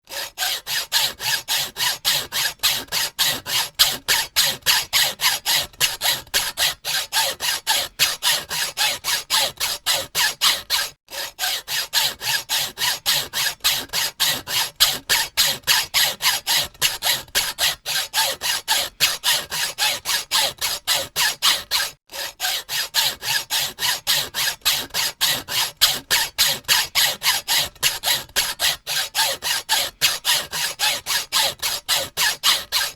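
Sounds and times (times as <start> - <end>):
hacksaw sawing: 0.0 - 32.9.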